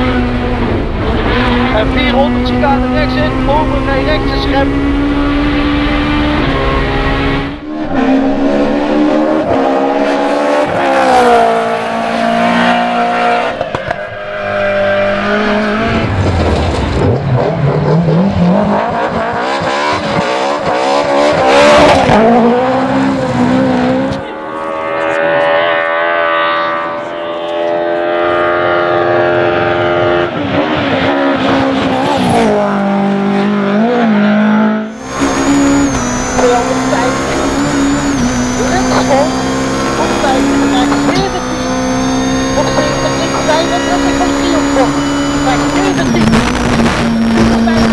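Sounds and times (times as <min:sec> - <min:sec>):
rally car engine revving past: 0:00.0 - 0:47.9.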